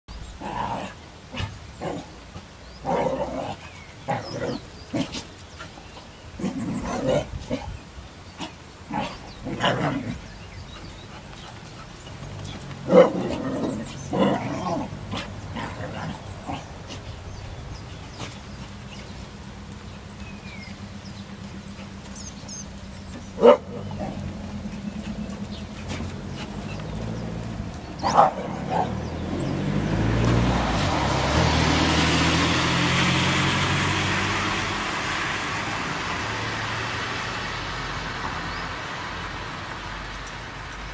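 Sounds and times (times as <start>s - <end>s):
dogs barking and yelping: 0.4s - 34.6s.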